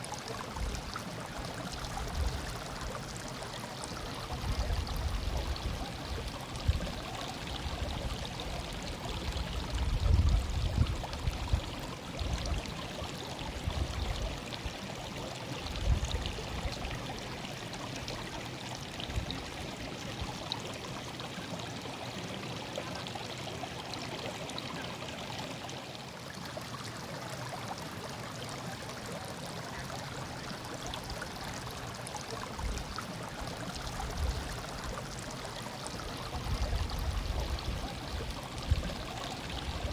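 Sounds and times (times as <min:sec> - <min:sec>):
stream water murmuring: 0:00.0 - 0:39.9.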